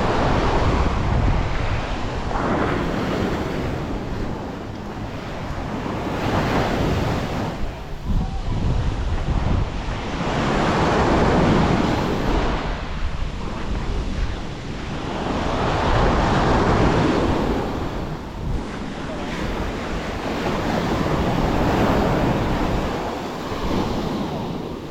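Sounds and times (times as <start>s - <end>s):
sea waves breaking on shore: 0.0s - 24.9s
wind buffeting microphone: 0.0s - 24.9s.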